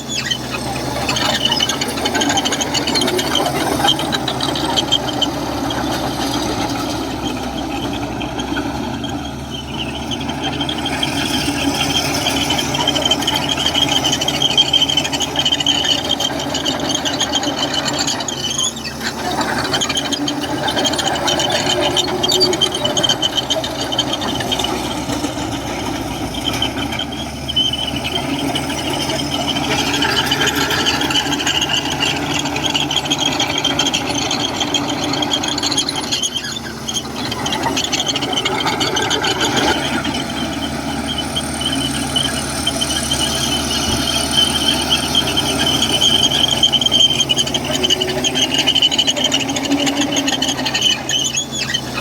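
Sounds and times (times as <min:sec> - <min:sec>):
bulldozer diesel engine running: 0:00.0 - 0:52.0
steel tracks squealing and rattling: 0:00.0 - 0:52.0.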